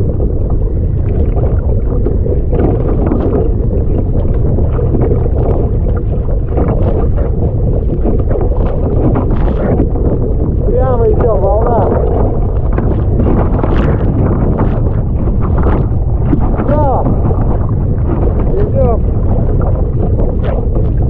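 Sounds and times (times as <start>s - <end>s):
waves splashing against boat: 0.0s - 21.0s
wind buffeting microphone: 0.0s - 21.0s.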